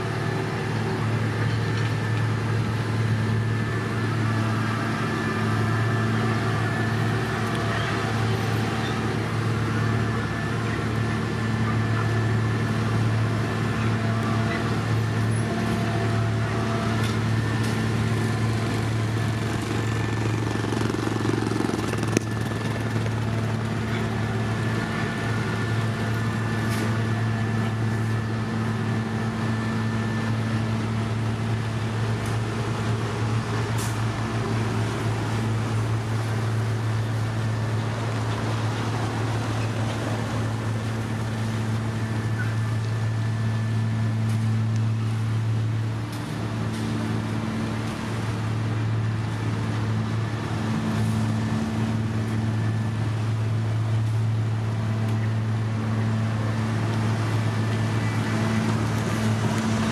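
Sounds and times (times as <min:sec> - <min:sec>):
diesel paving machinery droning: 0:00.0 - 0:59.9.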